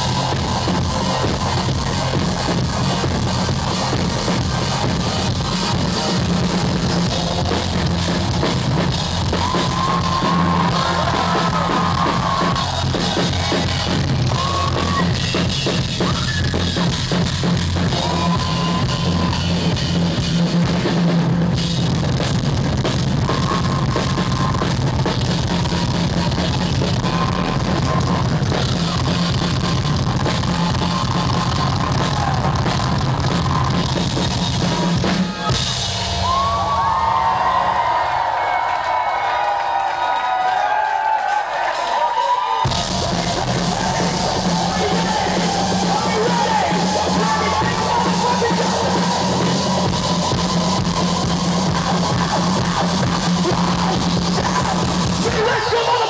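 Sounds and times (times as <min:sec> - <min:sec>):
drum kit beat: 0:00.0 - 0:37.8, 0:41.7 - 0:56.0.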